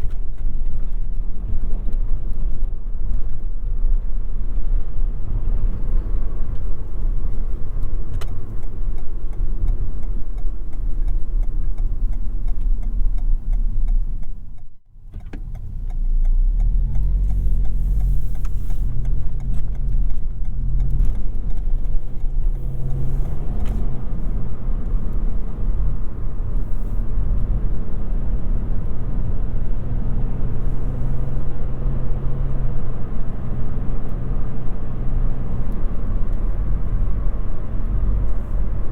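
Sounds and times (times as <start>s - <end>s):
car engine low hum: 0.0s - 38.9s
tyre and road noise: 0.0s - 38.9s.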